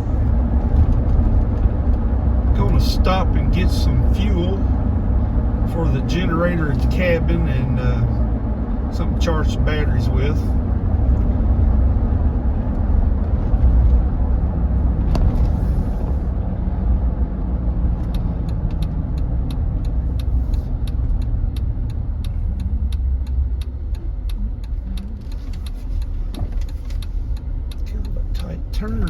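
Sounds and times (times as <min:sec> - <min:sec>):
engine and road rumble: 0:00.0 - 0:29.0
turn signal ticking: 0:00.0 - 0:29.0.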